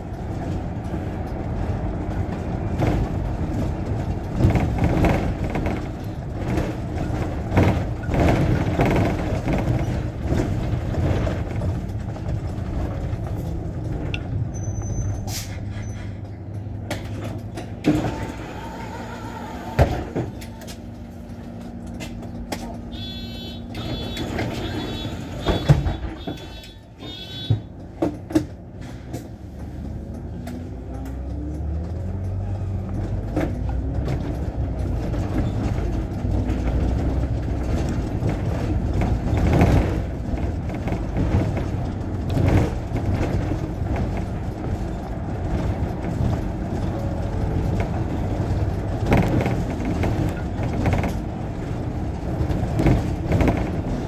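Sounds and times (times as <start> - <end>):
bus engine accelerating: 0.0 - 54.0
road noise: 0.0 - 54.0.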